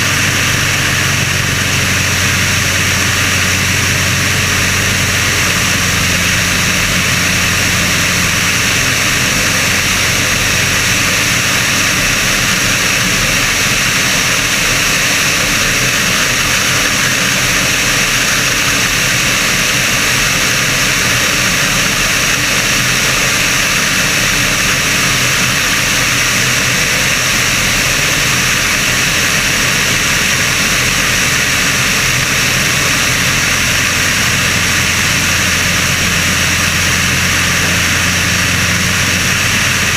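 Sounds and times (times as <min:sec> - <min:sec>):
propeller engine running steadily: 0:00.0 - 0:39.9.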